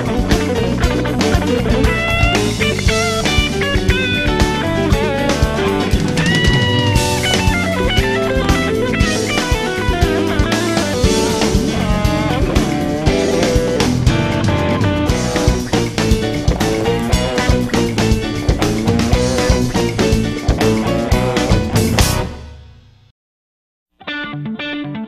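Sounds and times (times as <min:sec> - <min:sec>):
drum kit beat: 0:00.0 - 0:22.8
rock music with electric guitar: 0:00.0 - 0:23.1, 0:24.0 - 0:25.0.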